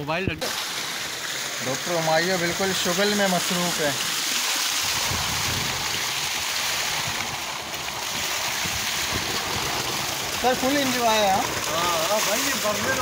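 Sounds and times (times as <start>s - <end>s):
water splashing: 0.3s - 13.0s
water pouring from a pipe: 0.4s - 13.0s.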